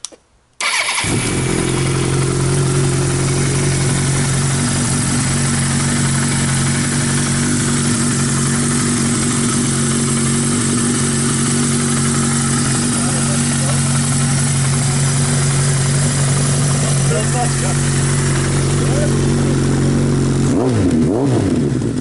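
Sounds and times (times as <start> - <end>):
motorcycle engine idling: 0.6 - 20.5.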